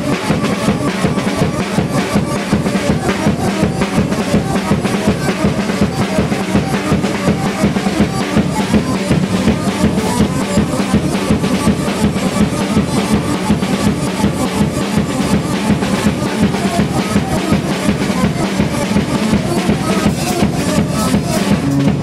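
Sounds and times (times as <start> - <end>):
drum kit fast beat: 0.0 - 22.0
music: 0.0 - 22.0.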